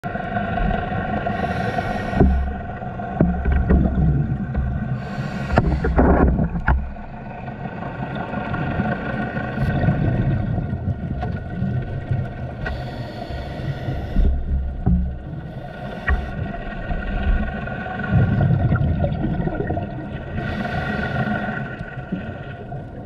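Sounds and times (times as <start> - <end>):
boat engines droning underwater: 0.0 - 23.0.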